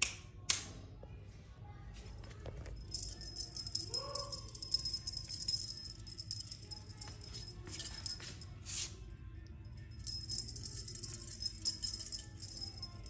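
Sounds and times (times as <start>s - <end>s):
cat toy jingling and rattling: 2.5s - 13.0s.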